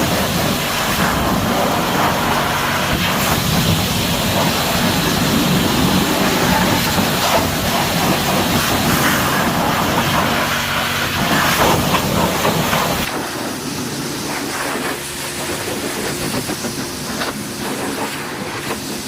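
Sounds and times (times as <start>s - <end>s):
pump humming: 0.0s - 17.8s
pressure washer water jet hissing: 0.0s - 19.0s.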